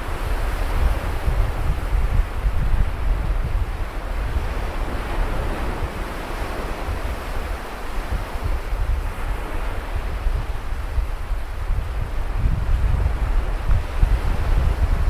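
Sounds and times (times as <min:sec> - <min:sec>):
sea surf washing onto beach: 0:00.0 - 0:15.0
wind rumbling on microphone: 0:00.0 - 0:15.0.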